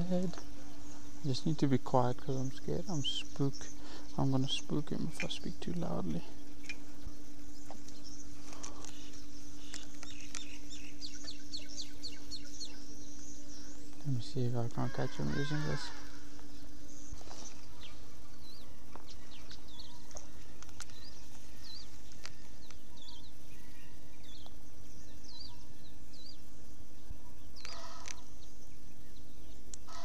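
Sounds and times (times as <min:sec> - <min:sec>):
low hum: 0:00.0 - 0:30.0
small birds chirping: 0:00.0 - 0:30.0.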